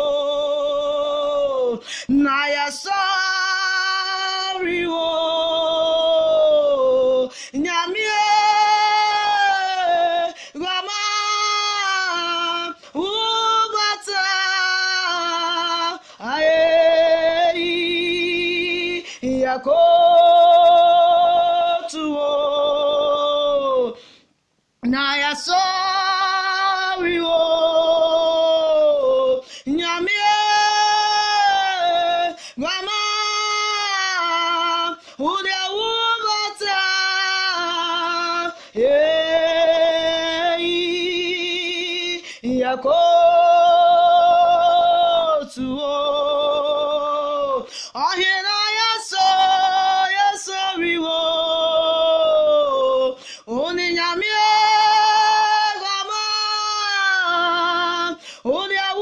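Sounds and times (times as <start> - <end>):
woman singing unaccompanied: 0.0 - 24.1, 24.8 - 59.0.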